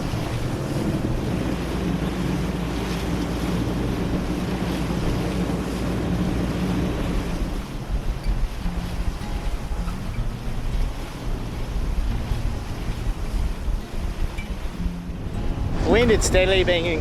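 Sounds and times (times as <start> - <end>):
sea water rushing along hull: 0.0 - 17.0
wind buffeting microphone: 0.0 - 17.0.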